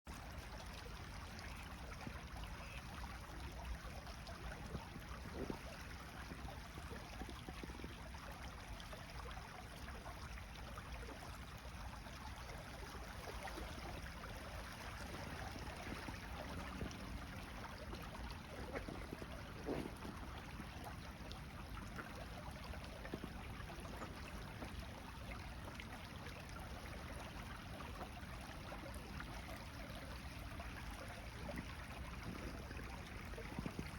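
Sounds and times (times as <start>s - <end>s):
flowing water: 0.1s - 33.9s.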